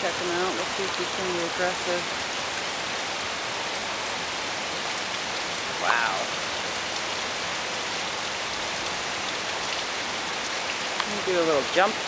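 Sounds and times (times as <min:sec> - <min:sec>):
creek water flowing over rocks: 0:00.0 - 0:12.0.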